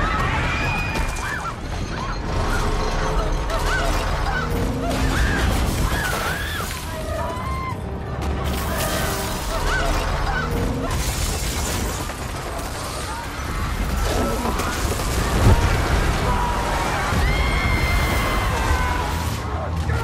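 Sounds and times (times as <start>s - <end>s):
panicked crowd screaming: 0.0s - 10.5s, 13.0s - 20.0s
film music: 0.0s - 20.0s
low rumble of destruction: 0.0s - 20.0s.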